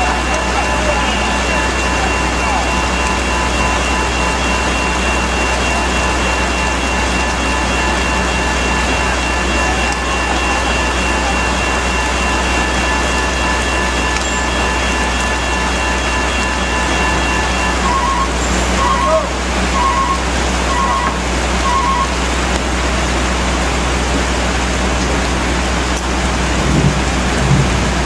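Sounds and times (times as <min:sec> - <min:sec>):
heavy rain: 0:00.0 - 0:28.0
vehicle engines idling: 0:00.0 - 0:28.0.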